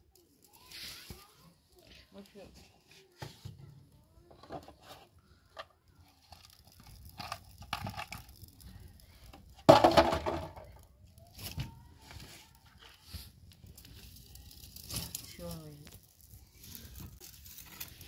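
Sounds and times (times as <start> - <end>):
straw and twigs crackling in fire: 0.0 - 18.0.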